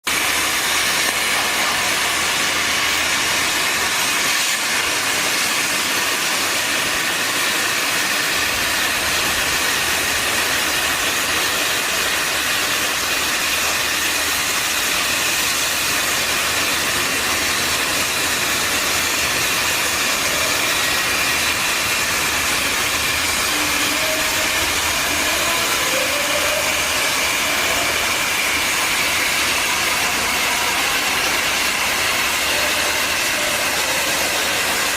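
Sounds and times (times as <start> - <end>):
plasma torch hissing: 0.0 - 34.9.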